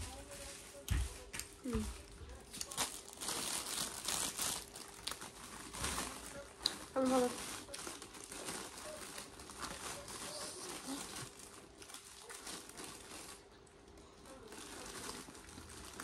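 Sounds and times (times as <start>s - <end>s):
chewing fried chicken: 0.8s - 16.0s.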